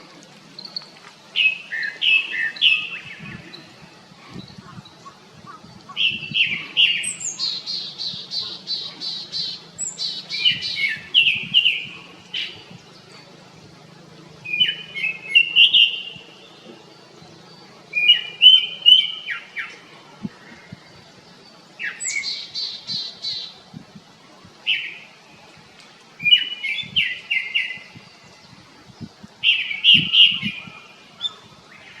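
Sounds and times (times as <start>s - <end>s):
thrush singing whistled notes: 0.0s - 13.2s, 14.4s - 19.9s, 20.8s - 23.6s, 26.2s - 32.0s.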